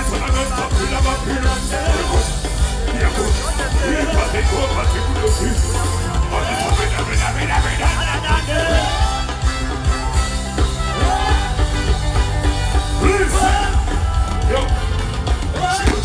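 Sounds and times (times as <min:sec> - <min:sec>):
loud music with bass beat: 0:00.0 - 0:16.0.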